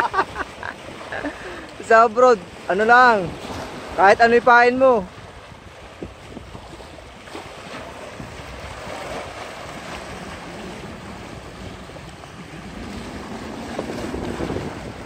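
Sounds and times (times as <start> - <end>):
waves splashing against rocks: 0.0 - 15.0
wind buffeting microphone: 2.5 - 15.0.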